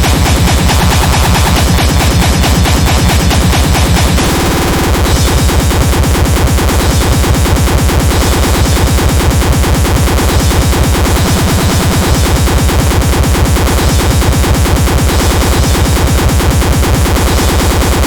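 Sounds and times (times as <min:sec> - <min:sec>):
electronic music with fast beat: 0:00.0 - 0:18.0.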